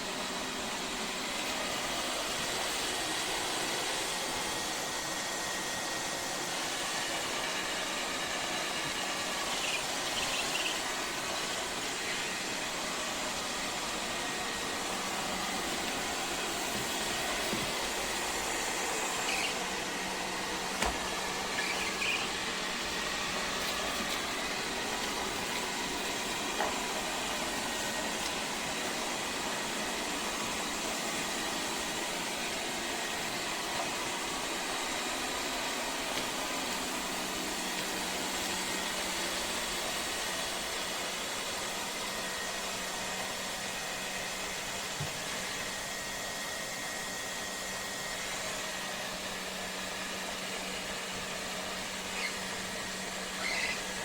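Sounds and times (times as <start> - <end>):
robot vacuum whirring: 0.1 - 54.0.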